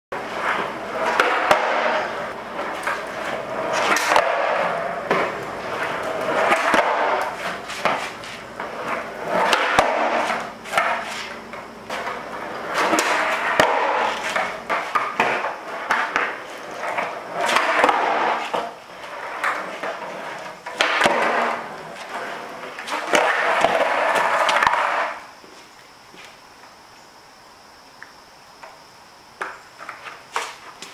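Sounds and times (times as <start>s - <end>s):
skateboard wheels rolling on concrete: 0.1s - 30.9s
skateboard clacking on ground: 0.2s - 25.3s, 29.4s - 30.9s
faint insect chirping: 0.2s - 30.9s.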